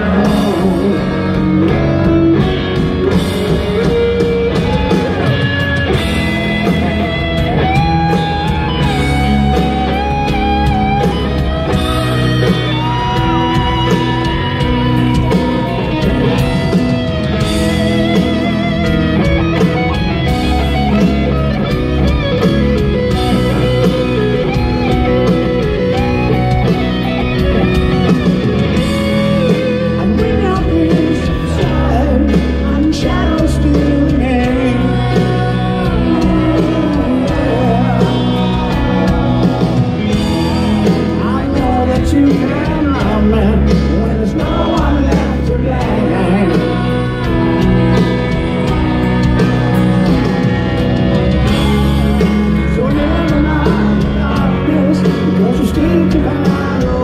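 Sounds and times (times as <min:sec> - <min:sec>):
electric guitar bending notes: 0:00.0 - 0:57.0
live rock band: 0:00.0 - 0:57.0
person singing: 0:00.0 - 0:57.0.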